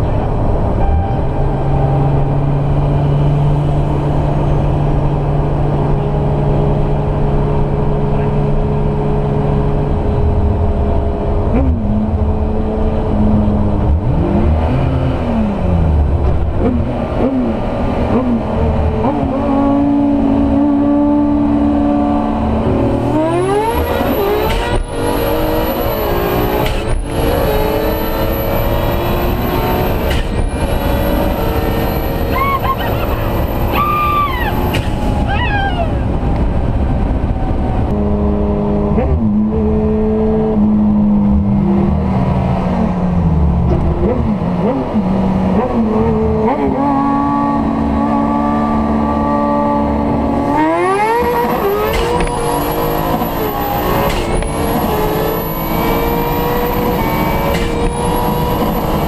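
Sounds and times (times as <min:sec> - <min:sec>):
car engine accelerating: 0:00.0 - 0:59.0
high turbo whine: 0:00.0 - 0:59.0.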